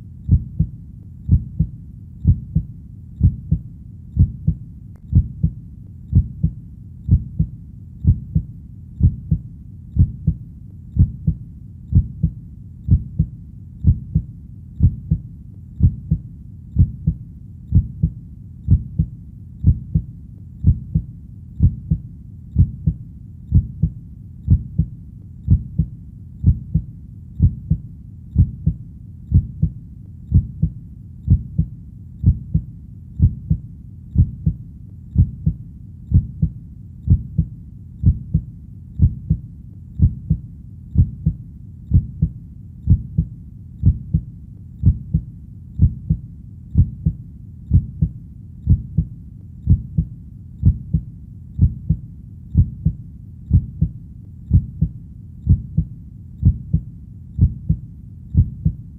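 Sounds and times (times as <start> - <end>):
heartbeat: 0.0 - 58.9.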